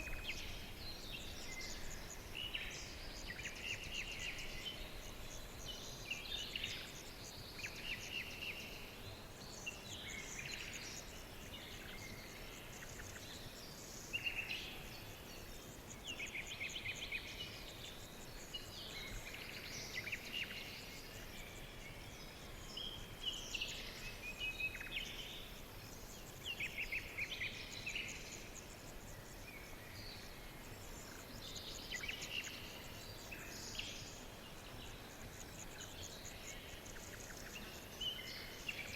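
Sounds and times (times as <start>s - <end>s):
background hiss: 0.0s - 38.9s
small birds chirping: 0.0s - 38.9s.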